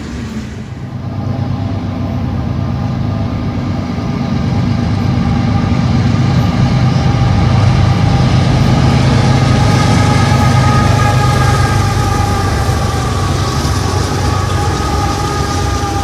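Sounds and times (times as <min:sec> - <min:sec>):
diesel locomotive engine hum: 0:00.0 - 0:16.0.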